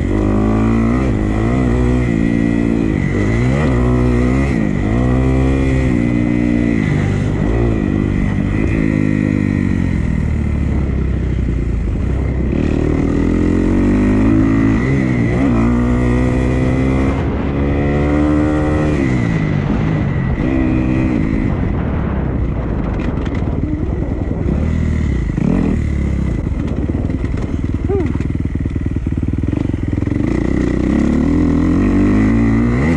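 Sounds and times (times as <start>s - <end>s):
dirt bike engine revving: 0.0s - 22.2s, 23.0s - 32.9s.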